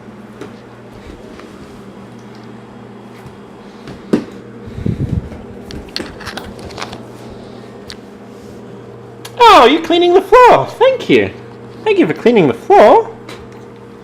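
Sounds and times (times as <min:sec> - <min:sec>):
household appliance humming: 0:00.0 - 0:14.0.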